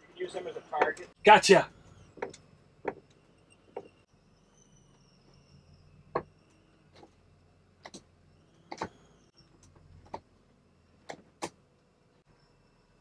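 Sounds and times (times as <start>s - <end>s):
faint high whine: 0.0s - 11.0s, 11.6s - 13.0s.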